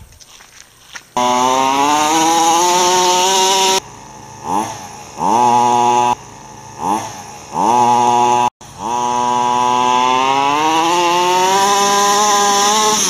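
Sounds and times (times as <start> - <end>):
small two-stroke engine revving: 1.2 - 13.0.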